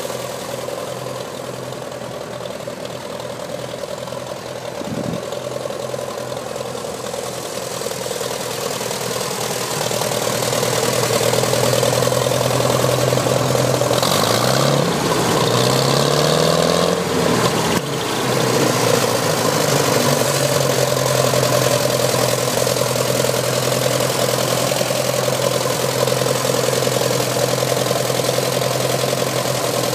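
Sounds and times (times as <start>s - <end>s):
tractor engine revving: 0.0s - 29.9s.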